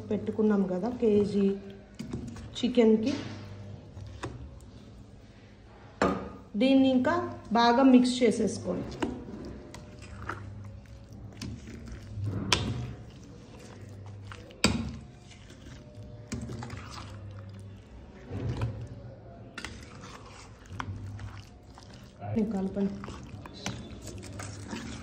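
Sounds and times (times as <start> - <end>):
wet squelching of stirring: 0.0 - 25.0.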